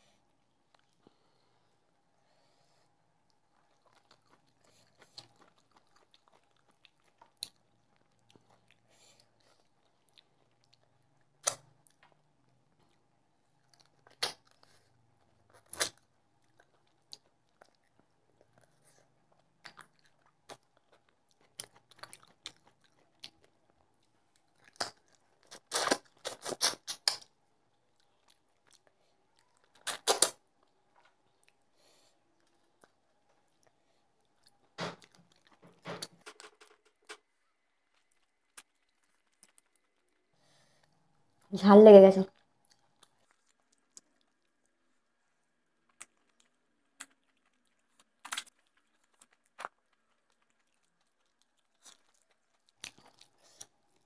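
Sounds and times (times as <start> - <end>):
person chewing food: 0.0 - 41.5, 42.3 - 54.0
faint steady hum: 0.0 - 54.0.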